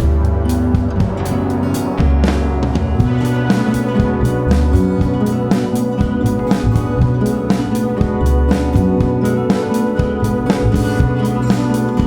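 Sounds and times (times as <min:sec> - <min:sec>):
band music with drums bass guitar: 0:00.0 - 0:12.0.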